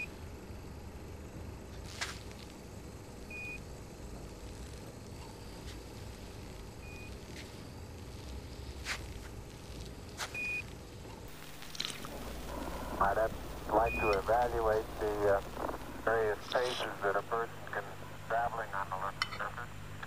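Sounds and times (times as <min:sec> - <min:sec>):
radio hiss and rumble: 0:00.0 - 0:20.0.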